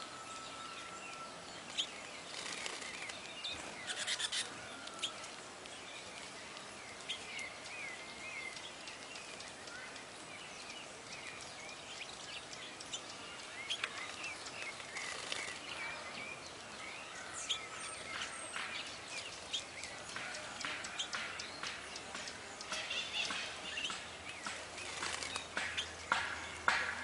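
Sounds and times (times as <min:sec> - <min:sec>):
songbirds chirping and whistling: 0:00.0 - 0:27.0
steady background hiss: 0:00.0 - 0:27.0.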